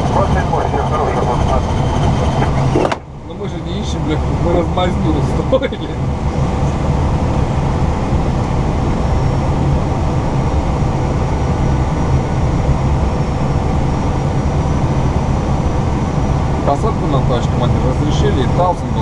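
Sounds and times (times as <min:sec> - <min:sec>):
aircraft cockpit engine rumble: 0:00.0 - 0:19.0.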